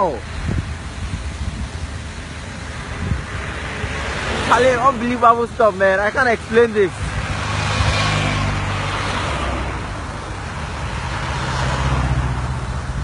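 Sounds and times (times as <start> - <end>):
low engine hum: 0.0 - 13.0
vehicles passing on road: 0.0 - 13.0.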